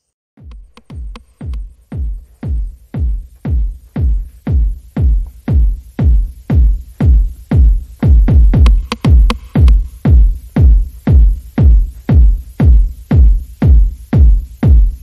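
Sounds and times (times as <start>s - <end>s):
electronic dance music: 0.4s - 15.0s.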